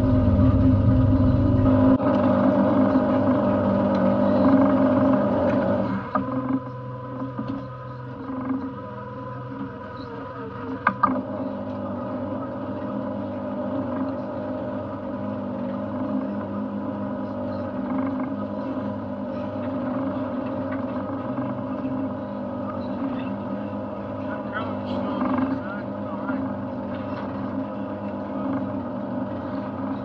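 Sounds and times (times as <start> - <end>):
outboard engine running: 0.0 - 30.0.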